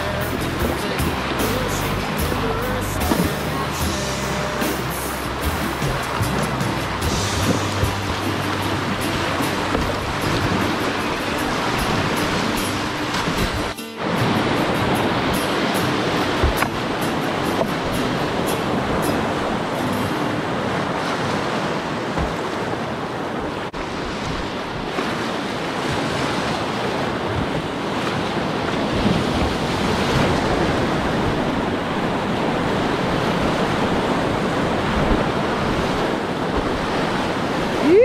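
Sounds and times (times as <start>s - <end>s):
river rapids rushing: 0.0s - 38.0s.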